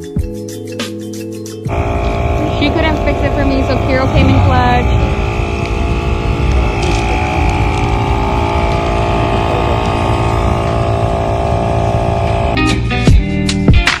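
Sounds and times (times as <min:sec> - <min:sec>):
air compressor humming: 0:01.7 - 0:13.1.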